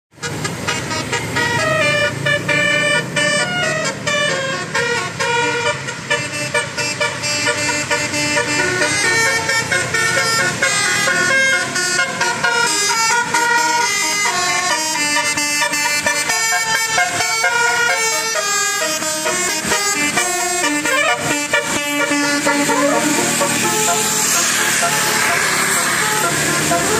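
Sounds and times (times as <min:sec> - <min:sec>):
bus musical air horn melody: 0:00.2 - 0:26.9.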